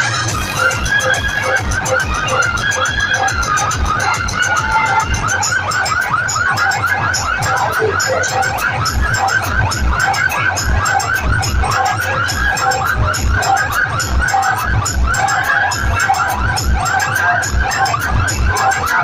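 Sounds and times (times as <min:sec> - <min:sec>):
warbling siren-like electronic tone: 0:00.0 - 0:19.0.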